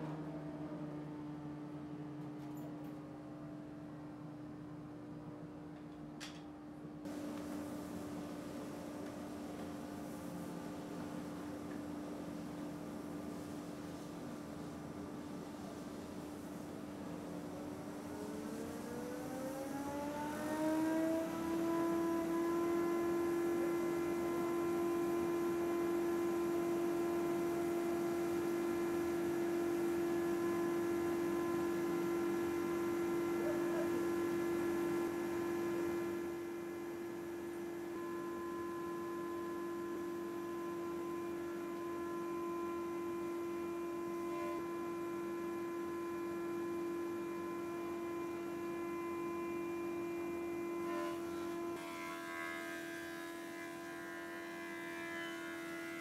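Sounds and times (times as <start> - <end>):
thickness planer running: 7.1 - 56.0.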